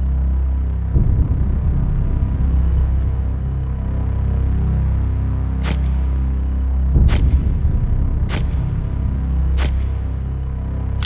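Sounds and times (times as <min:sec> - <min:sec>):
dark low background music: 0:00.0 - 0:11.0.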